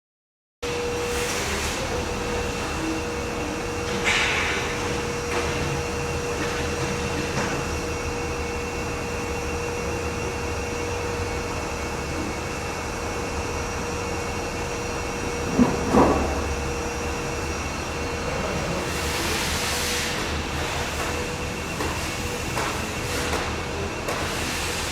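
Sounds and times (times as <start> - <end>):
construction machinery humming: 0.7 - 24.9.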